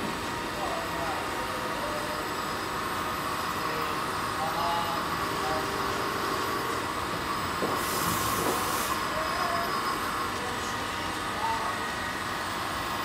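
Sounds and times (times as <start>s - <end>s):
industrial machinery noise: 0.0s - 13.0s.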